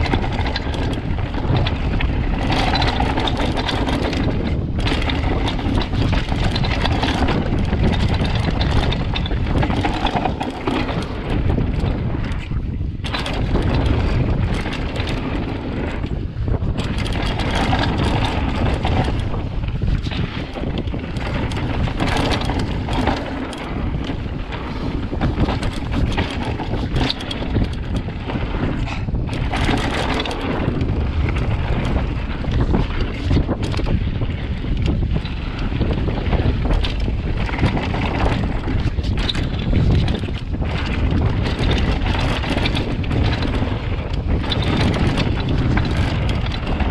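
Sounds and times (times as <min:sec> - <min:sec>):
bike rattling and knocking: 0:00.0 - 0:46.9
tyres rolling on dirt: 0:00.0 - 0:46.9
wind rushing over microphone: 0:00.0 - 0:46.9.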